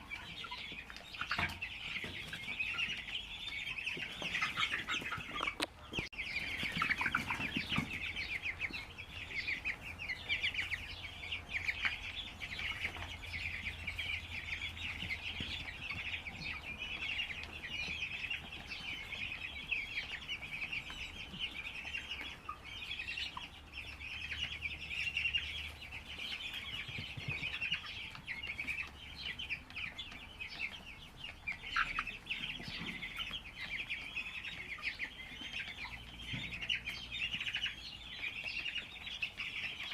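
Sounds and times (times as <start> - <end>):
chickens cheeping: 0.0 - 39.9.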